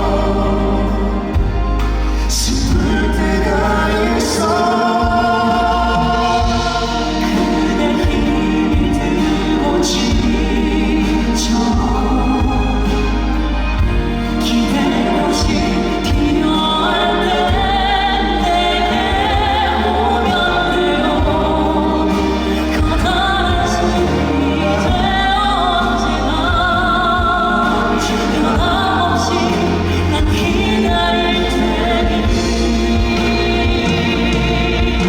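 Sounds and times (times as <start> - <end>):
band and orchestral accompaniment: 0.0 - 35.0
male vocal group singing ballad: 0.0 - 35.0.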